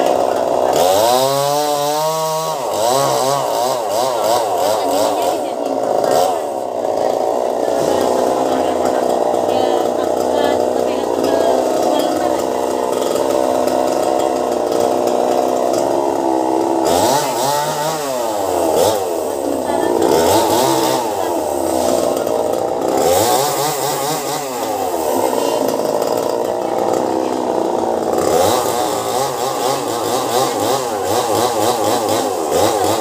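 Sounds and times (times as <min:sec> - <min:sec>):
chainsaw cutting at high revs: 0:00.0 - 0:33.0.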